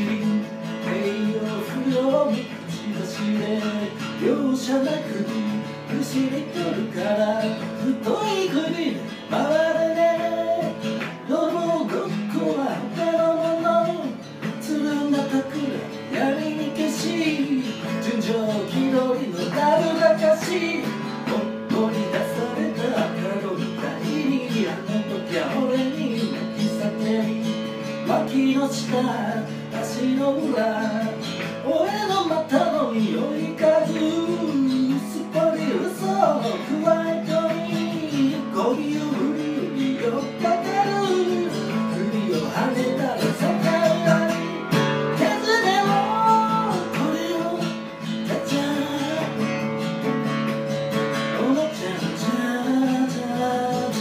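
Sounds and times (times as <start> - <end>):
acoustic guitar strumming: 0.0 - 54.0
person singing: 0.0 - 54.0.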